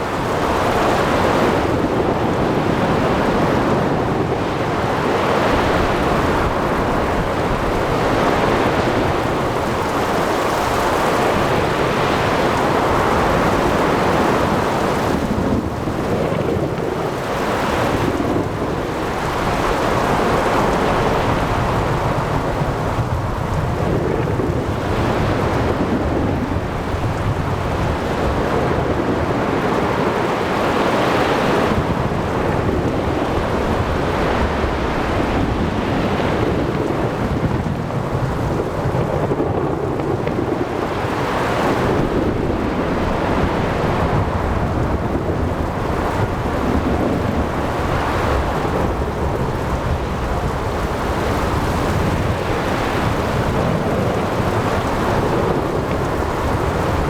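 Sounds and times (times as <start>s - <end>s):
steady rain: 0.0s - 57.0s
waves washing: 0.0s - 57.0s
wind: 0.0s - 57.0s.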